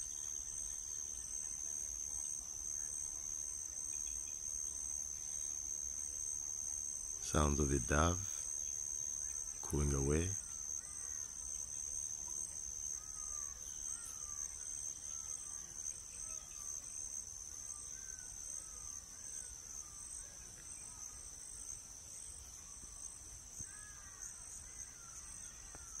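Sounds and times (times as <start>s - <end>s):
chorus of insects droning: 0.0s - 26.0s.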